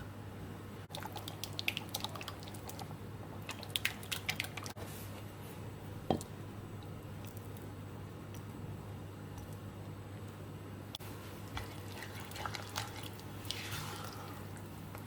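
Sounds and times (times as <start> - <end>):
utensil squishing soft mixture: 0.9 - 9.8, 10.9 - 15.0.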